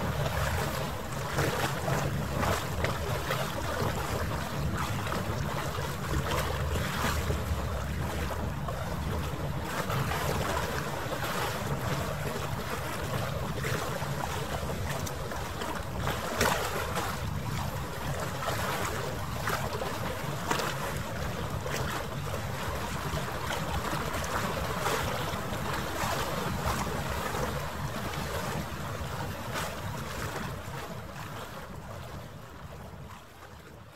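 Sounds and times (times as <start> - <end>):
low rumble of harbour water: 0.0 - 33.9.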